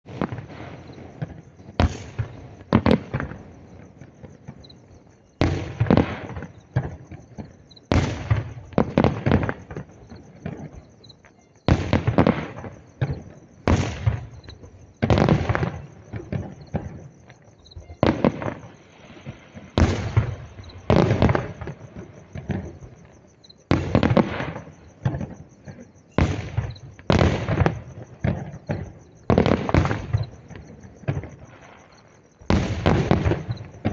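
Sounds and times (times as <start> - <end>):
fireworks bangs echoing: 0.0 - 4.7, 5.4 - 10.9, 11.7 - 17.1, 17.8 - 23.1, 23.7 - 33.9.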